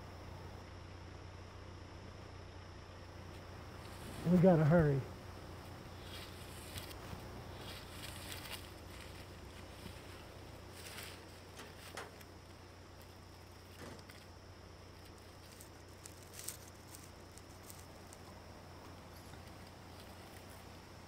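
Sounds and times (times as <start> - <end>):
low steady hum: 0.0 - 21.0
dry leaves crackling: 3.6 - 21.0.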